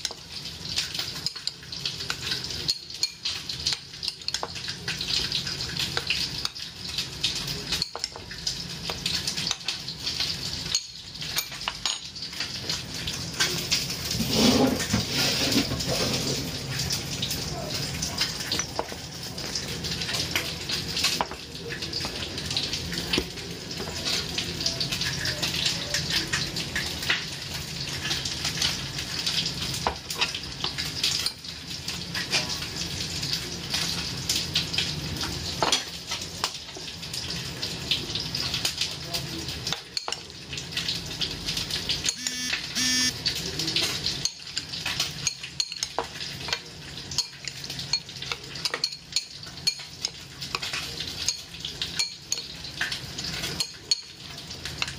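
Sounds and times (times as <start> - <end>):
kitchen background hiss and hum: 0.0 - 54.9.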